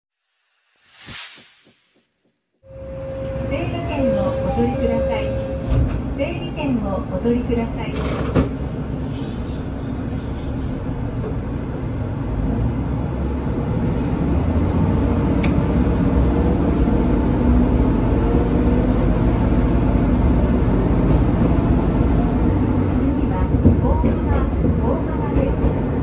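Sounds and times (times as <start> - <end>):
train engine and wheel rumble: 2.6 - 26.0.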